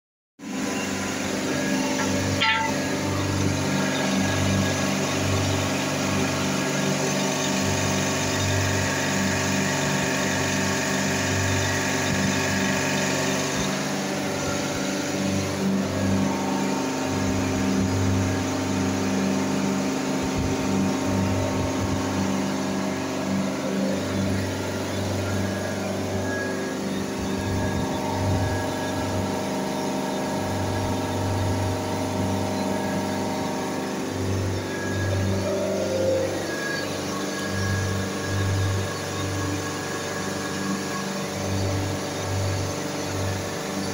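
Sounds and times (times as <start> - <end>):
refrigeration compressor humming: 0.4 - 43.9.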